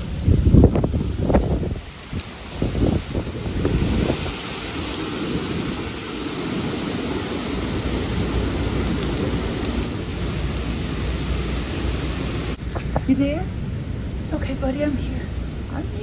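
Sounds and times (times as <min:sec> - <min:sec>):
wind and rain roaring: 0:00.0 - 0:16.0.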